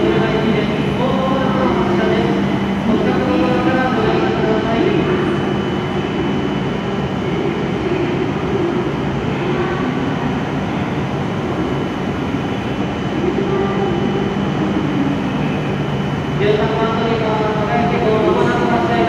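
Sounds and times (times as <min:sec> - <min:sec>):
train equipment humming: 0:00.0 - 0:19.0.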